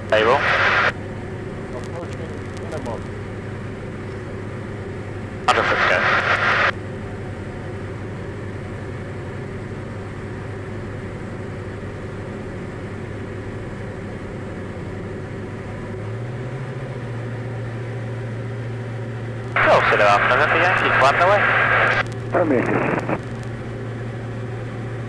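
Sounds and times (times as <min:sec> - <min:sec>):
airplane engine and propeller droning: 0:00.0 - 0:25.0.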